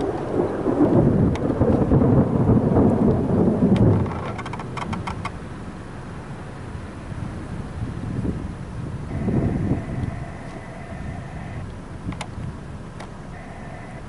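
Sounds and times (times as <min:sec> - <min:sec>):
thunder rumbling: 0:00.0 - 0:05.3, 0:07.1 - 0:14.0.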